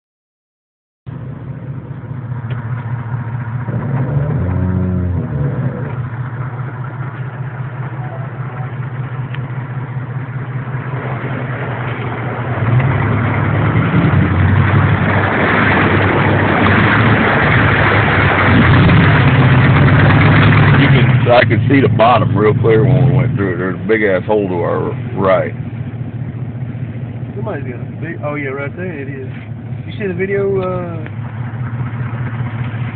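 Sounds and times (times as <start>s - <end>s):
truck engine revving: 1.4s - 32.9s
water splashing against truck: 2.3s - 32.9s.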